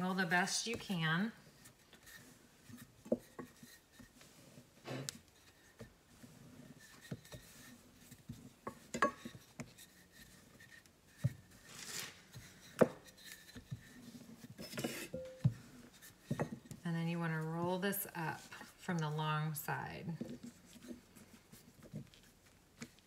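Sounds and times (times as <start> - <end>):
rolling pin rubbing on dough: 0.0 - 18.9.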